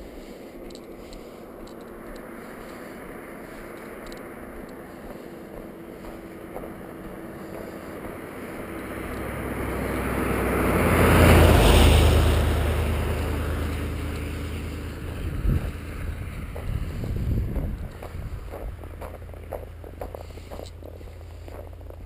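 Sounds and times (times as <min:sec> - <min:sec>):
car passing on wet road: 0:00.1 - 0:22.0.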